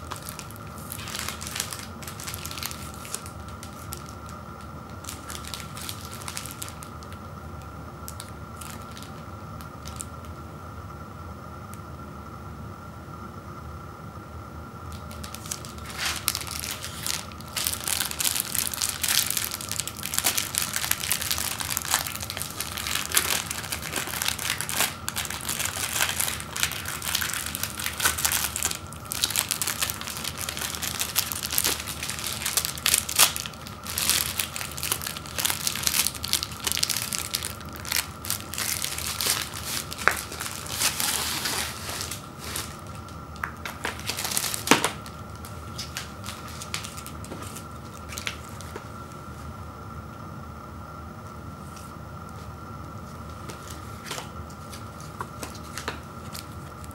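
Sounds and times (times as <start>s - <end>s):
plastic wrapper crinkling: 0.0s - 10.3s, 14.9s - 49.1s, 53.5s - 56.9s.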